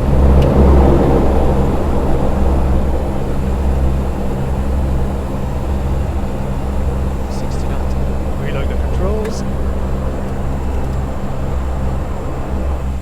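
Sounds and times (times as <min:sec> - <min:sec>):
low propeller hum: 0:00.0 - 0:13.0
turboprop engine drone: 0:00.0 - 0:13.0.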